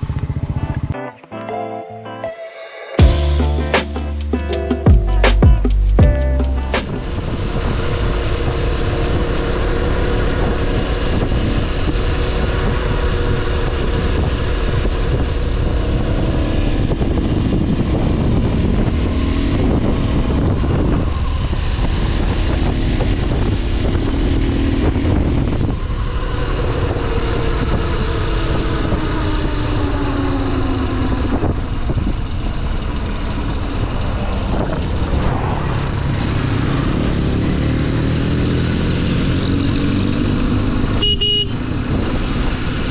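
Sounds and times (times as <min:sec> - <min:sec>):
motorcycle engine running: 0:00.0 - 0:01.0, 0:03.0 - 0:42.9
wind rumble on microphone: 0:06.8 - 0:42.9.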